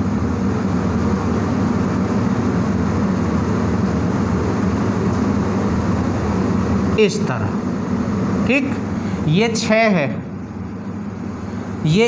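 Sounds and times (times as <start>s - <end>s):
steady machine drone: 0.0s - 12.0s.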